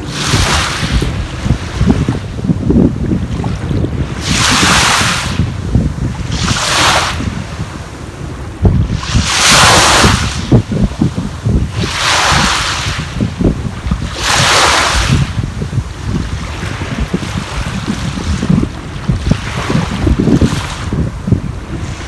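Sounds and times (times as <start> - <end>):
sea waves washing on shore: 0.0 - 22.0
wind buffeting microphone: 0.0 - 22.0.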